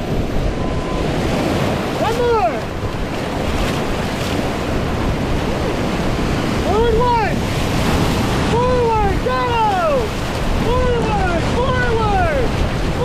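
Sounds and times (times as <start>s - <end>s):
whitewater rapids rushing: 0.0s - 13.0s
wind buffeting microphone: 0.0s - 13.0s.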